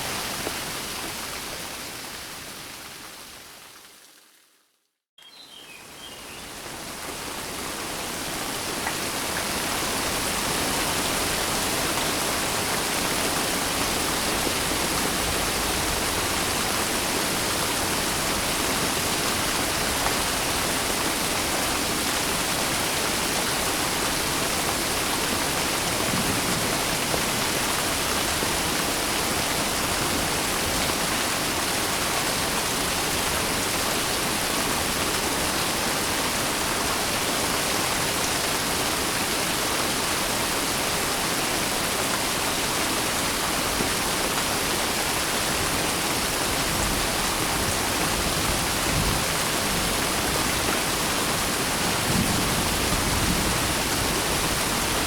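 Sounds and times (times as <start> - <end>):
rain falling: 0.0 - 4.5, 5.8 - 55.0.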